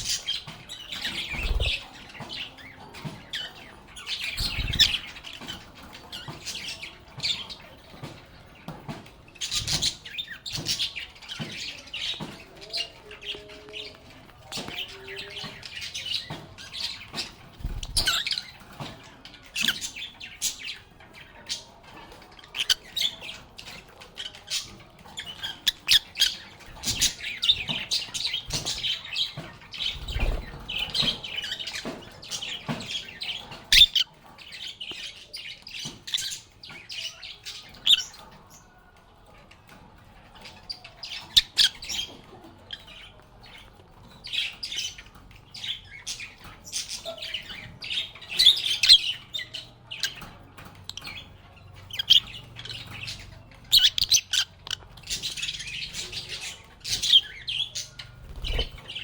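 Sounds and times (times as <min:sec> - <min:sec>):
lovebirds chirping: 0:00.0 - 0:39.5, 0:40.1 - 0:59.0.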